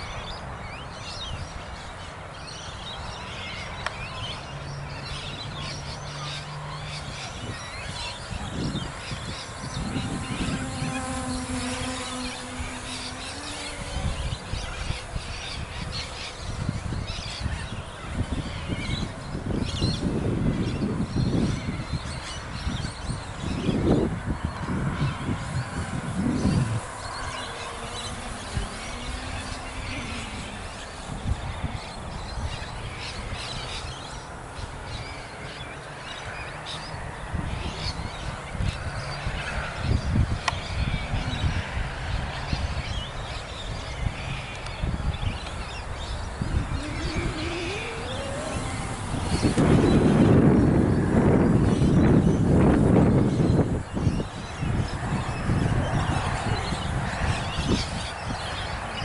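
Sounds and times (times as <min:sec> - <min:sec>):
small birds chirping: 0:00.0 - 0:59.0
wind rumbling on microphone: 0:00.0 - 0:59.0
model aircraft motor whine: 0:06.9 - 0:35.8, 0:36.4 - 0:59.0.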